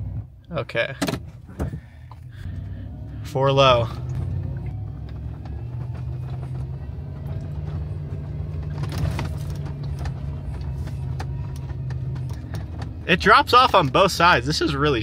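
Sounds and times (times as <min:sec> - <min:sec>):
truck engine at low revs: 0:00.0 - 0:15.0.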